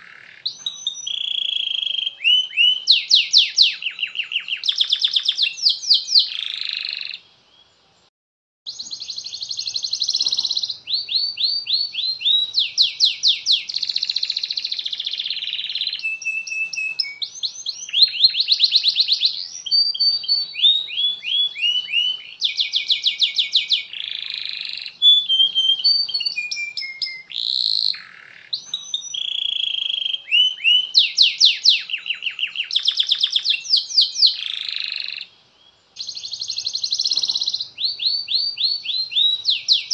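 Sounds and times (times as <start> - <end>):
canary singing trills: 0.0 - 7.8, 8.7 - 39.9.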